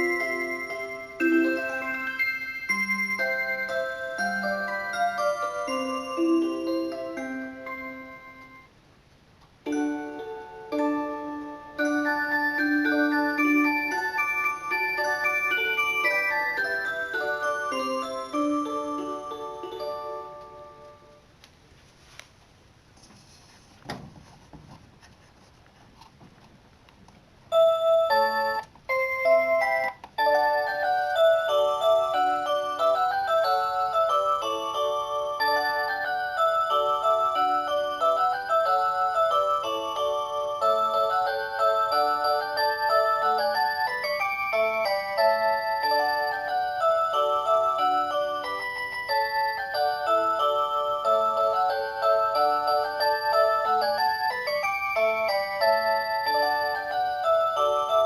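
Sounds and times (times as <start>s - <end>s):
alarm clock electronic melody: 0.0s - 8.7s, 9.7s - 21.2s, 27.5s - 58.0s.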